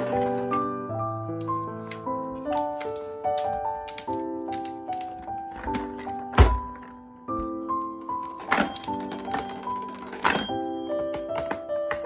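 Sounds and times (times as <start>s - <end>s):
light keyboard melody: 0.0s - 12.0s.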